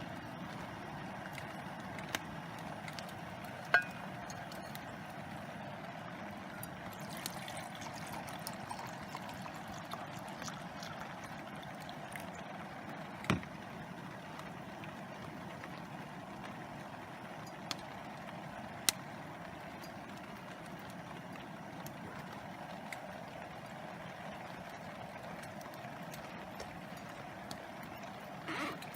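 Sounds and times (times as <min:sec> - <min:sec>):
rain and river water rushing: 0:00.0 - 0:28.9.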